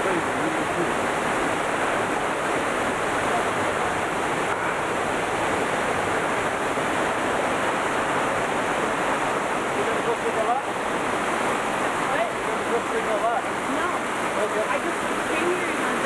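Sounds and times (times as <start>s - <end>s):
river rapids: 0.0s - 16.0s
waterfall rushing: 0.0s - 16.0s.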